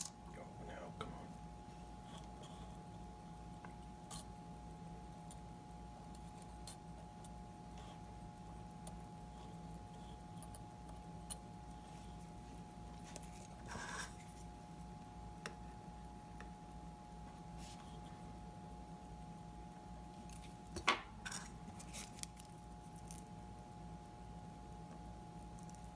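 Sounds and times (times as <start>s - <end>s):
electrical hum: 0.0s - 25.9s
small tools clicking and tapping: 1.0s - 25.9s.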